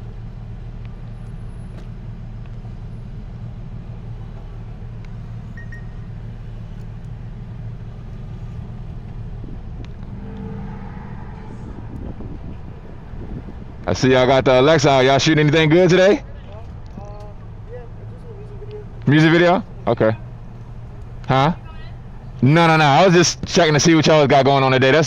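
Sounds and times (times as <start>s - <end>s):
vehicle and road rumble: 0.0s - 25.0s.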